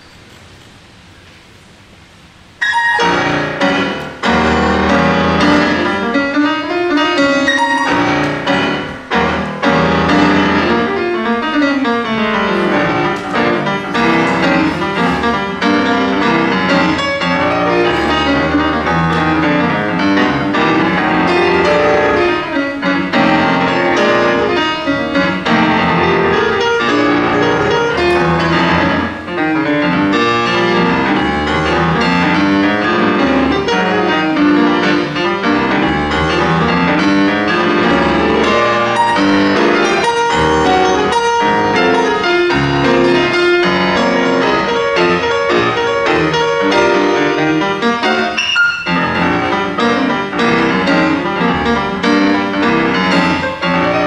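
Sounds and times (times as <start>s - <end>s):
fast grand piano playing: 2.4s - 54.0s.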